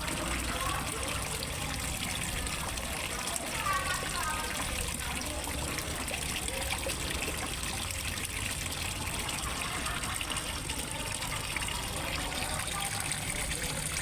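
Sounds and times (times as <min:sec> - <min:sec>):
water splashing into pond: 0:00.0 - 0:14.0.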